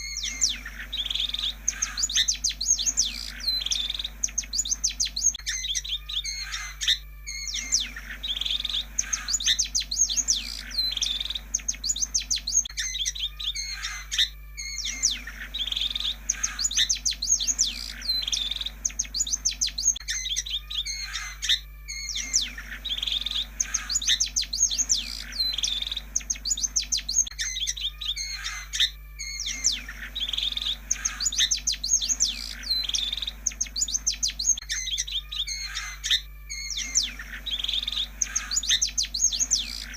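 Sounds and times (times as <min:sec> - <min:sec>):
faint steady hum: 0:00.0 - 0:39.9
shrike song chirps: 0:00.0 - 0:39.9.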